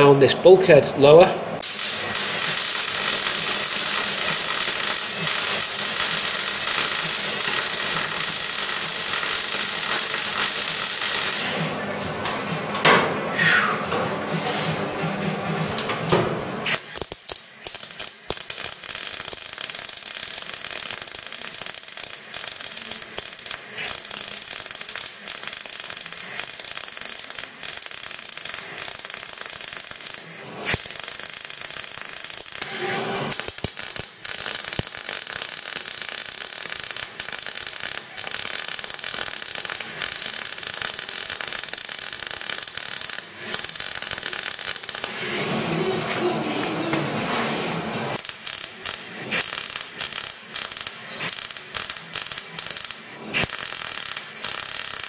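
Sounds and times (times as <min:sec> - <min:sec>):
welder arc crackling sizzle: 0:01.6 - 0:11.8, 0:16.6 - 0:46.3, 0:47.2 - 0:55.0.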